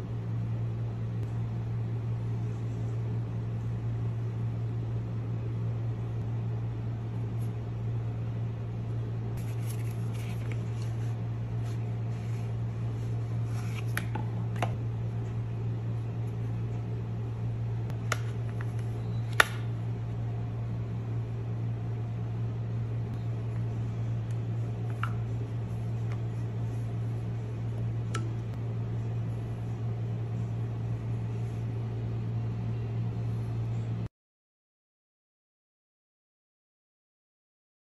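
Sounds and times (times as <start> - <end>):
steady low hum: 0.0 - 34.1.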